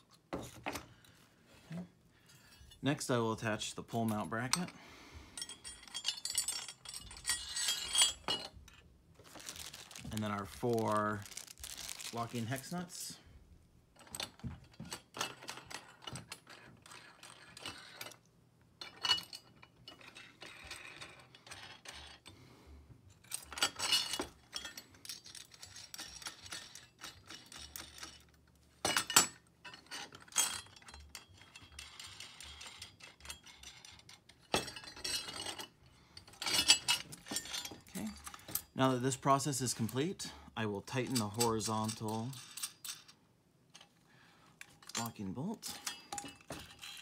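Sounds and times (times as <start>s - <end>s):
metal parts clinking and rattling: 5.4s - 13.2s, 14.0s - 22.3s, 23.1s - 44.0s, 44.6s - 47.0s.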